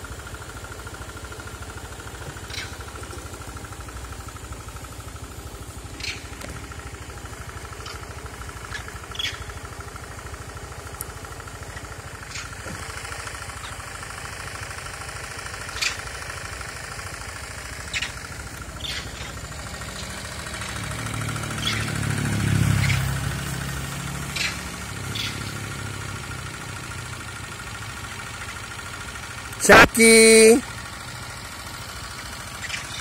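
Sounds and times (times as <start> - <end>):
scooter engine idling: 0.0 - 33.0.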